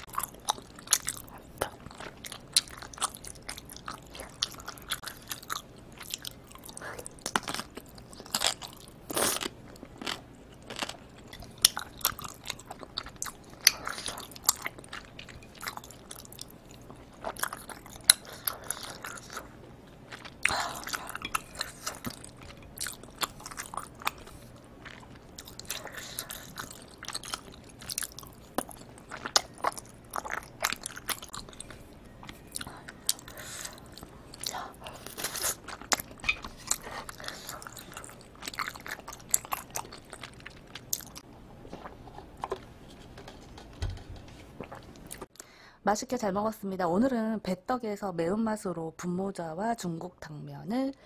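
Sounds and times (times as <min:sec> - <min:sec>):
close chewing with sticky mouth clicks: 0:00.0 - 0:42.6.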